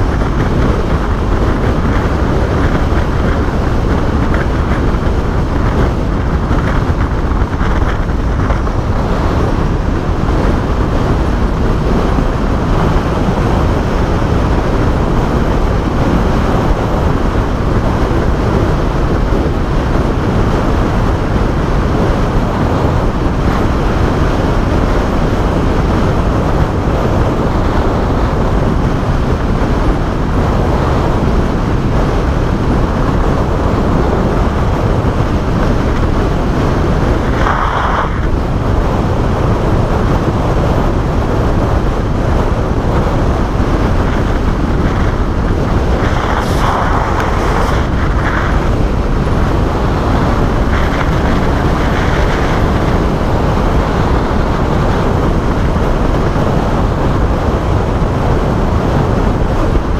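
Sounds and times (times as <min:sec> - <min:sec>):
rush of wind: 0:00.0 - 0:59.9.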